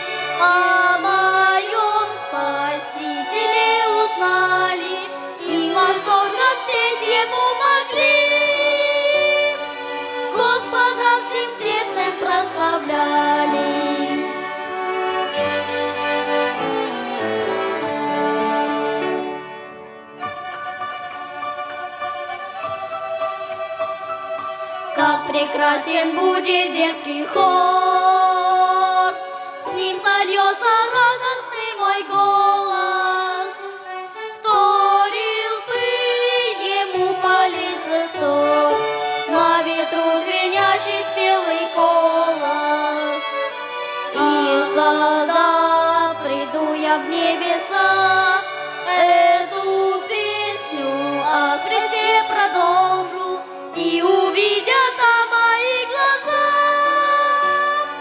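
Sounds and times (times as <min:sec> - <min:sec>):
small church ensemble music: 0:00.0 - 0:58.0
violin melody: 0:00.0 - 0:58.0.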